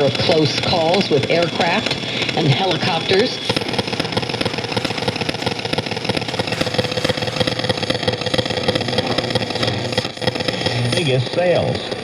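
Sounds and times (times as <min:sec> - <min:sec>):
radio interference buzz: 0:00.0 - 0:12.0
steady whistle tone: 0:00.0 - 0:12.0.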